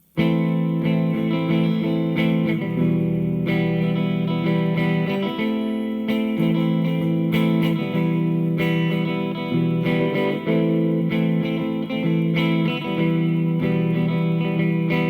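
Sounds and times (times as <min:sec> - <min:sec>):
electric guitar chords: 0:00.0 - 0:15.0.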